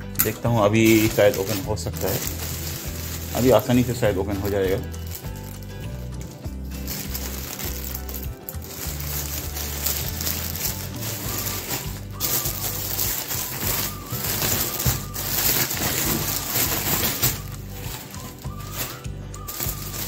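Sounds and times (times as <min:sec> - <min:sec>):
background music: 0:00.0 - 0:20.0
plastic bag crinkling and rustling: 0:00.2 - 0:20.0.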